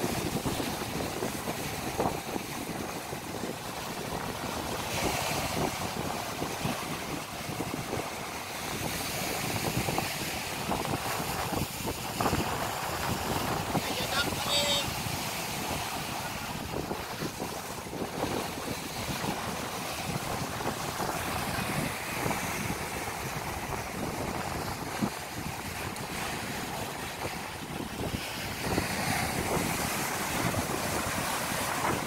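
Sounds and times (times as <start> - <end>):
surf breaking on seawall: 0.0 - 32.0
wind on microphone: 0.0 - 32.0.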